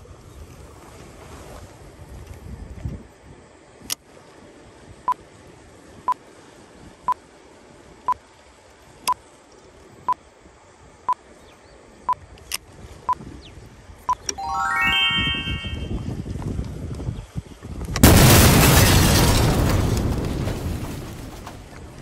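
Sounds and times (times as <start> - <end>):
faint wind: 0.0 - 22.0.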